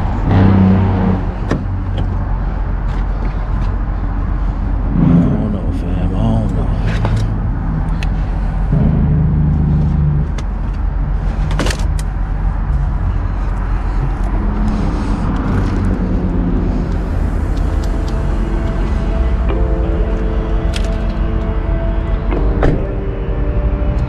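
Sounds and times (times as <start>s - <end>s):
diesel truck engine idling: 0.0s - 23.9s.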